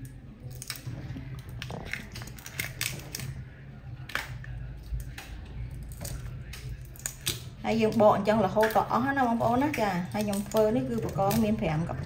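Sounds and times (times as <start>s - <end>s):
prawn shell cracking: 0.0s - 11.6s.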